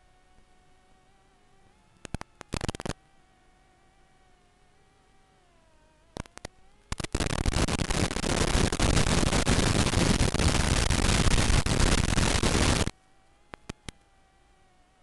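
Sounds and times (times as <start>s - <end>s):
static hiss with crackles: 0.0s - 15.0s.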